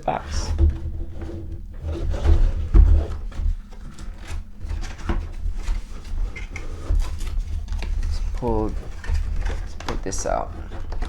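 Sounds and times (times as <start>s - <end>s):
cardboard box scraping and rustling: 0.1s - 11.0s.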